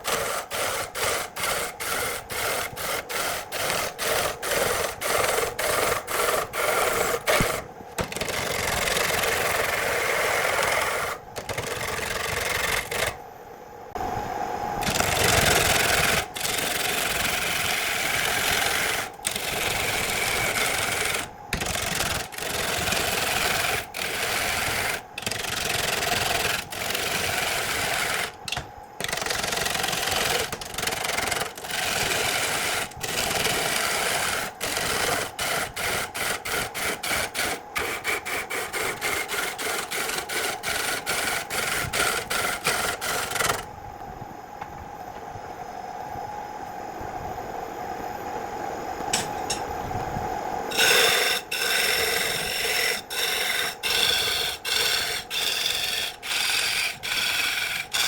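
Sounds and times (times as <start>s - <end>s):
wood being rasped: 0.0s - 13.2s, 14.8s - 28.4s, 29.0s - 43.6s, 50.7s - 58.0s
steady hum: 0.0s - 58.0s.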